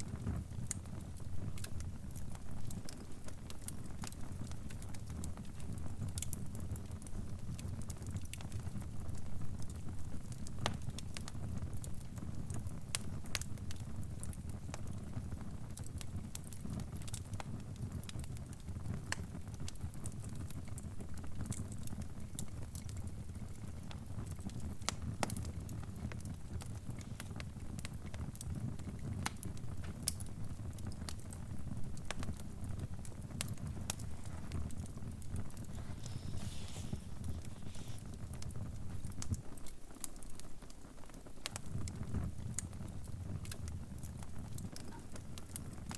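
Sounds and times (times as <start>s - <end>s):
fire crackling: 0.0s - 45.9s.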